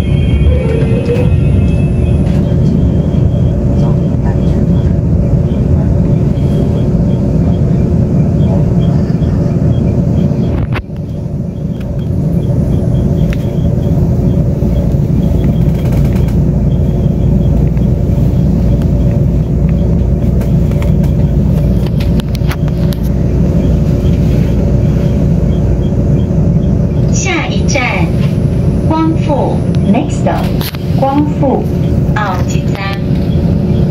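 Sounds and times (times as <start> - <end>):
train running rumble: 0.0 - 33.9.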